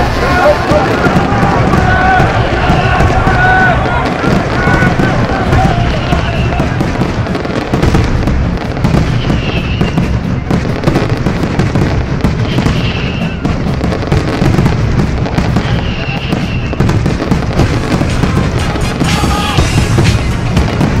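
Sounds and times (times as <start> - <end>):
dense crackling: 0.0 - 21.0
stadium crowd cheering: 0.0 - 21.0.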